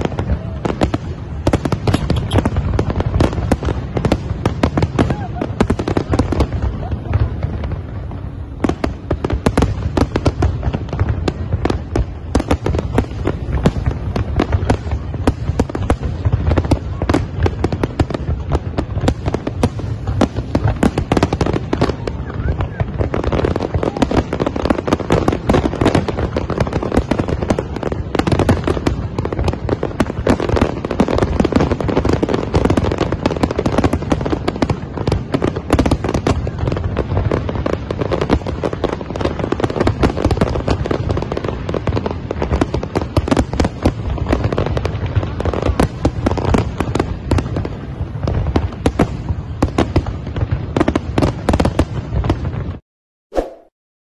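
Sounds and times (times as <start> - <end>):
fireworks bursting and crackling: 0.0 - 52.8.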